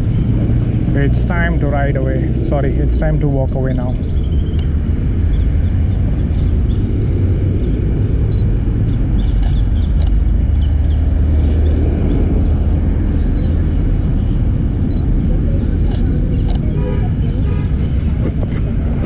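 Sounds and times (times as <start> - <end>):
low street rumble: 0.0 - 19.0.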